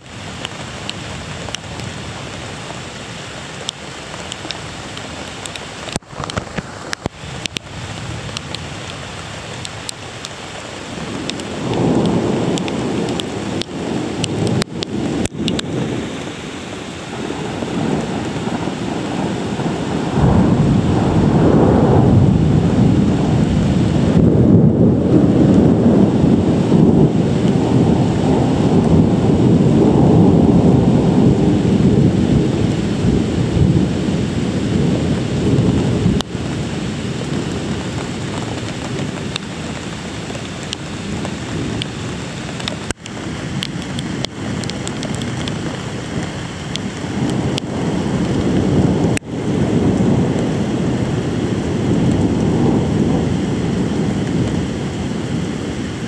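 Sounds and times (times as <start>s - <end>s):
steady rain: 0.0s - 56.0s
thunder rumbling: 3.9s - 56.0s.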